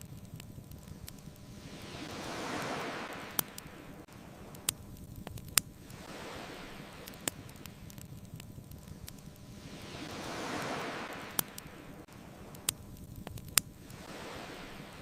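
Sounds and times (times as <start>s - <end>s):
ocean waves washing: 0.0s - 15.0s
wood fire crackling: 0.0s - 15.0s.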